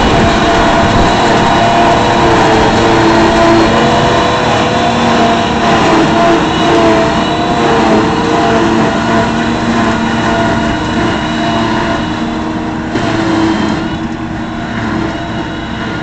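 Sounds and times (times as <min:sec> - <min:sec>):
forage harvester whine: 0:00.0 - 0:16.0
tractor engine under load: 0:00.0 - 0:16.0.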